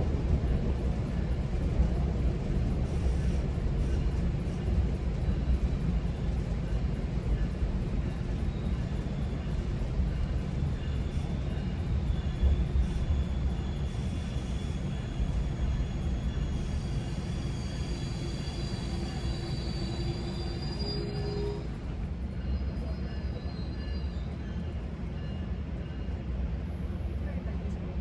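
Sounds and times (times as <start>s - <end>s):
train rumbling on rails: 0.0s - 28.0s.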